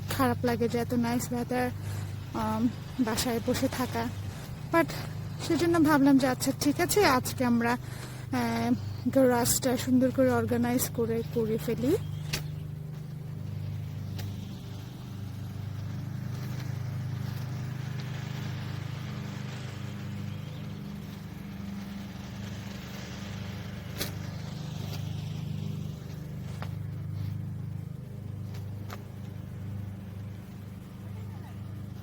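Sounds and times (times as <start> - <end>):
low motor hum: 0.0 - 32.0
passing traffic: 0.0 - 32.0.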